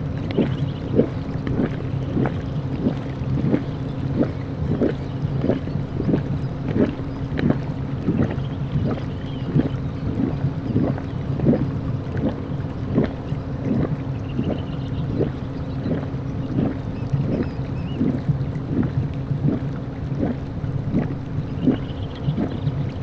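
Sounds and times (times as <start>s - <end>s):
hot spring boiling and gurgling: 0.0s - 23.0s
steady low rumble: 0.0s - 23.0s.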